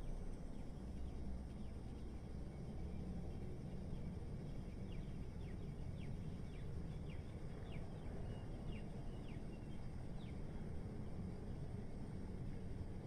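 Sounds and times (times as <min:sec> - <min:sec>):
low city rumble: 0:00.0 - 0:13.0.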